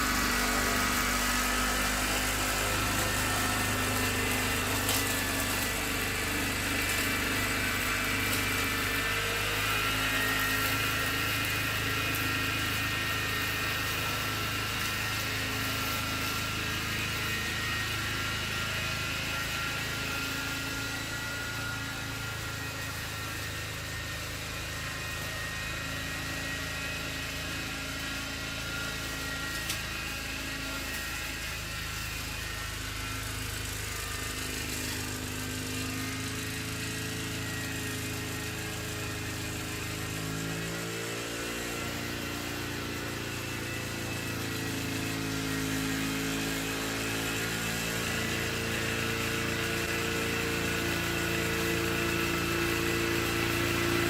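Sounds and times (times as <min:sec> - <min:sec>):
lawnmower running: 0:00.0 - 0:54.0.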